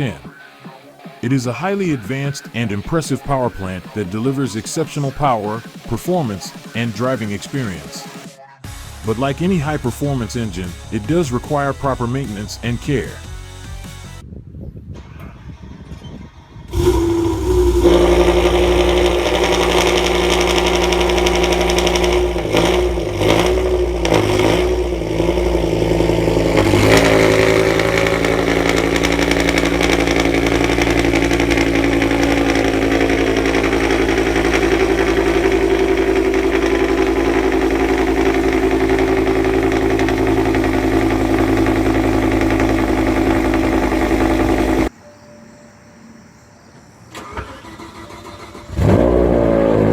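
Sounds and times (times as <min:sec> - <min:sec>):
engine revving: 0:00.0 - 0:00.4, 0:01.2 - 0:08.3, 0:09.0 - 0:13.2, 0:16.7 - 0:44.9, 0:47.2 - 0:49.9
car engine starting and idling: 0:00.0 - 0:00.5, 0:01.2 - 0:13.2, 0:16.7 - 0:44.9, 0:47.1 - 0:49.9.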